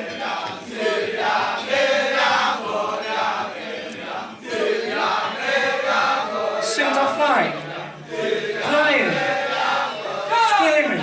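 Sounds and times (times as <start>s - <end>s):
chorus of voices chanting: 0.0s - 11.0s.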